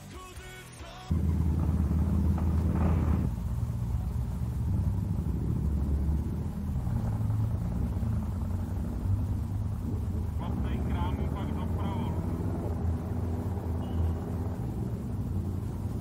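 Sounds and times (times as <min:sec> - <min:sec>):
motorcycle engine running: 0:01.1 - 0:16.0.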